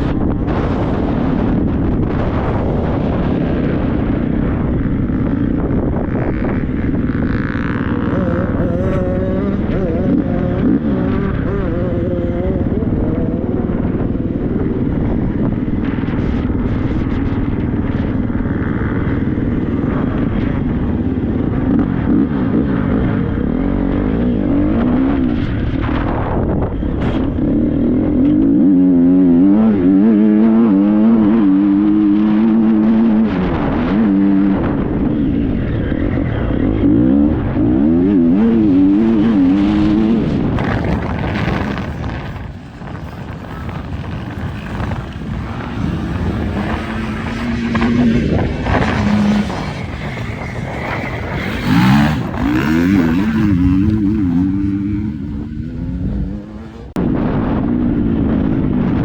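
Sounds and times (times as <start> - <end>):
motorcycle engine revving: 0.0 - 59.0
wind buffeting microphone: 0.0 - 59.0.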